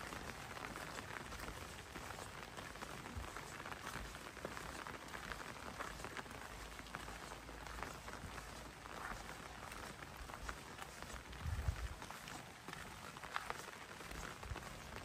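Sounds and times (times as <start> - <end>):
raindrops ticking on surfaces: 0.0 - 15.0
steady rain falling: 0.0 - 15.0.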